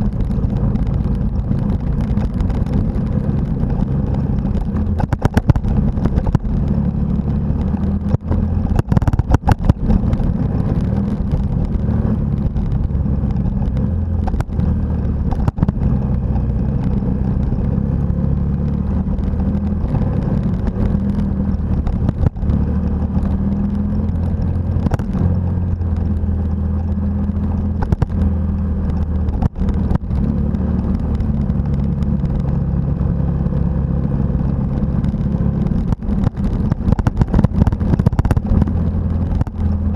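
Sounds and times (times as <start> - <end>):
knocks and clatter on gravel: 0.0 - 32.7, 34.5 - 39.9
motorcycle engine running: 0.0 - 39.9.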